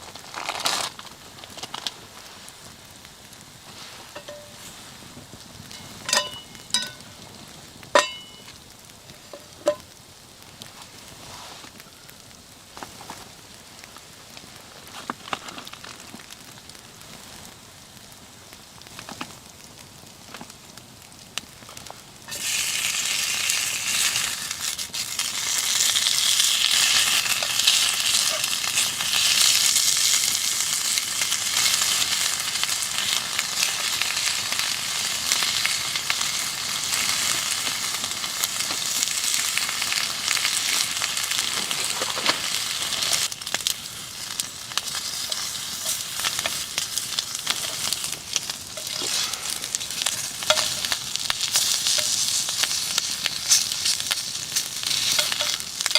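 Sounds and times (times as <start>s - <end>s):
food sizzling: 0.0s - 11.7s, 21.5s - 55.9s
crackles of frying: 0.0s - 55.9s.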